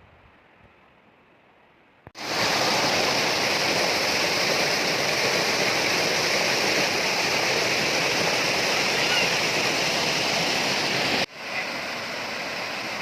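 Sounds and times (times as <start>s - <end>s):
waterfall rushing: 2.2s - 13.0s.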